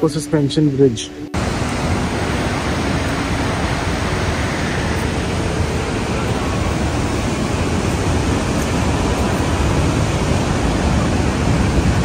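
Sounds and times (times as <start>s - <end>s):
creek running: 0.0s - 12.0s
waterfall rushing: 0.0s - 12.0s.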